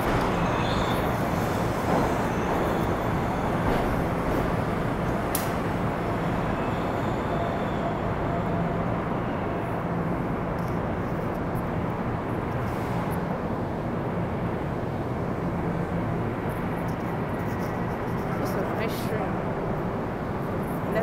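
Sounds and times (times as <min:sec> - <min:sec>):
idling train rumble and hum: 0:00.0 - 0:21.0.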